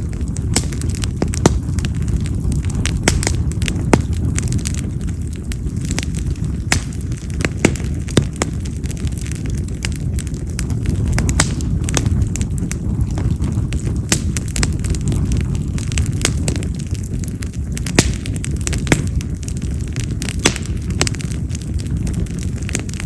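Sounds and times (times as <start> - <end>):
open fire crackling: 0.0 - 23.0.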